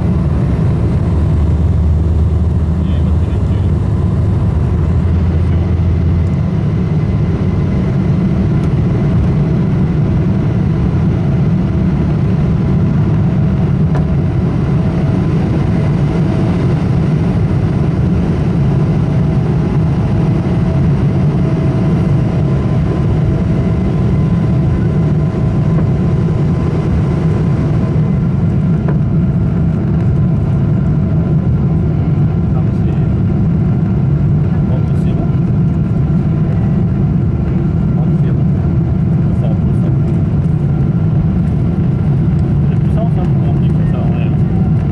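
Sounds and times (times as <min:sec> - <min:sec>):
deep rumble: 0:00.0 - 0:44.9
jet engines roaring: 0:00.0 - 0:44.9.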